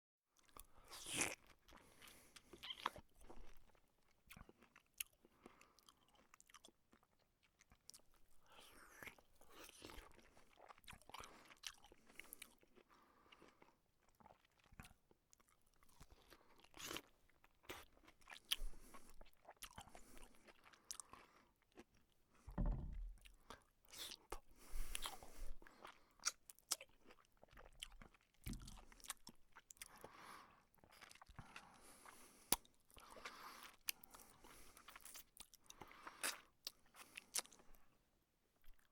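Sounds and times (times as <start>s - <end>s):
person chewing crunchy food: 0.4s - 38.0s, 38.6s - 38.9s.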